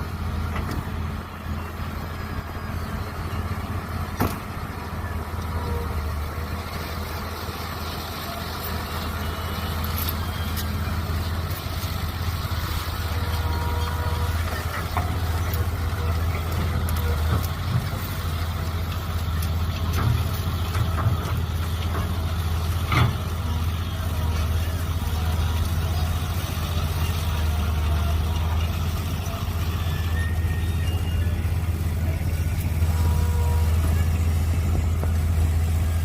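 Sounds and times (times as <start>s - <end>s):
excavator engine running under load: 0.0s - 36.0s.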